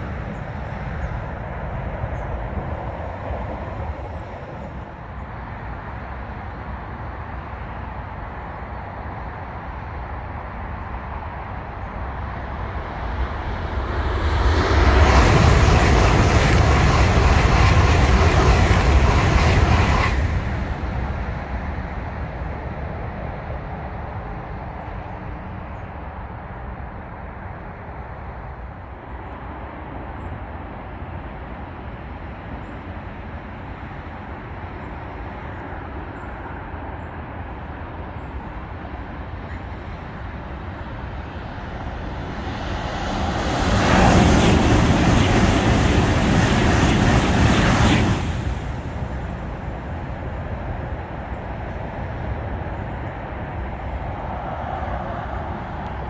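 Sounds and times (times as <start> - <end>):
high-speed train passing: 0.0 - 56.0
motorway traffic noise: 0.0 - 56.0.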